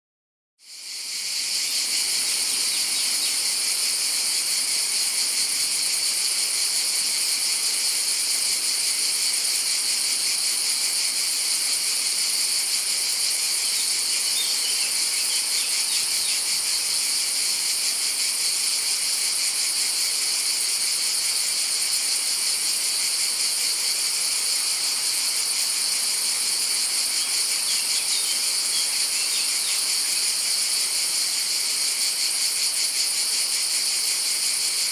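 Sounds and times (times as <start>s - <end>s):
cicadas buzzing: 0.7s - 34.9s.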